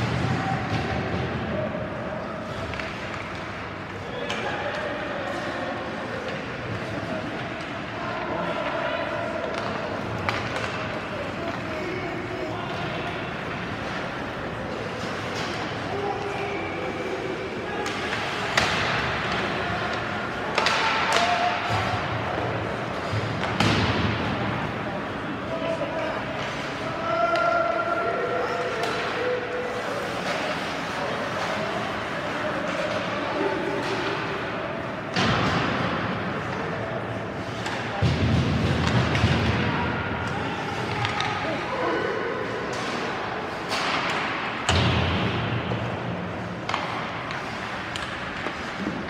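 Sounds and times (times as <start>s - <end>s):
crowd voices din: 0.0s - 49.0s.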